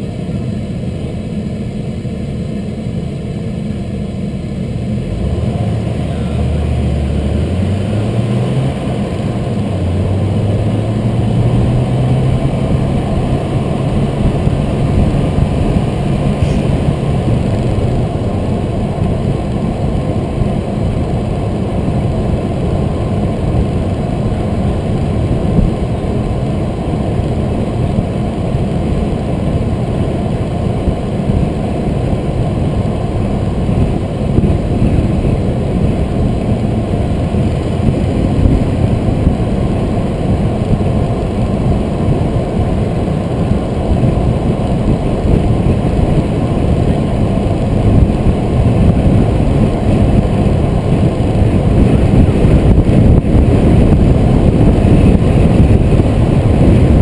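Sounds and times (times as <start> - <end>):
car engine accelerating: 0.0 - 57.0
road and tyre noise: 0.0 - 57.0.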